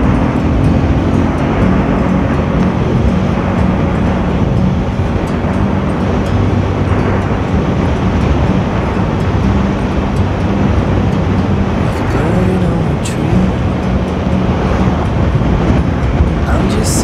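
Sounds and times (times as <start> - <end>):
motorcycle engine running: 0.0 - 16.5
wind and road noise: 0.0 - 17.0.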